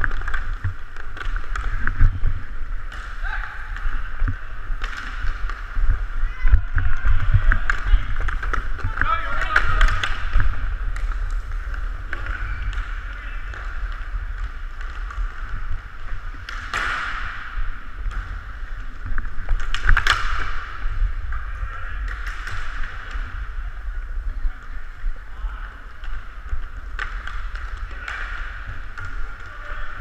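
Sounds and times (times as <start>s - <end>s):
hockey stick clacks: 0.0s - 6.0s, 6.8s - 23.5s, 25.7s - 30.0s
skating rumble: 0.0s - 30.0s.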